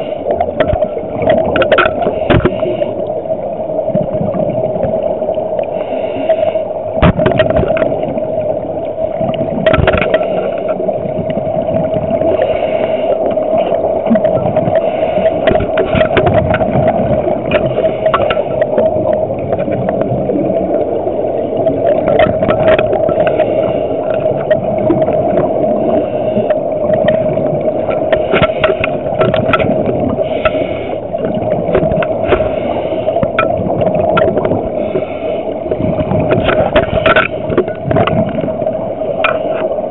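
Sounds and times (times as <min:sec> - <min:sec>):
scuba regulator bubbling: 0:00.0 - 0:39.9
underwater drone: 0:00.0 - 0:39.9
clicks and crackles: 0:00.3 - 0:02.8, 0:07.0 - 0:12.0, 0:13.2 - 0:20.8, 0:21.6 - 0:25.5, 0:26.4 - 0:35.0, 0:35.7 - 0:39.9.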